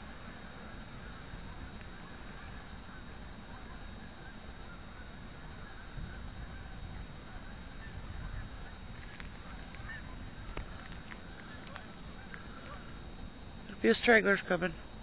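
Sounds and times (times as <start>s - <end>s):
distant geese honking: 0.0s - 15.0s.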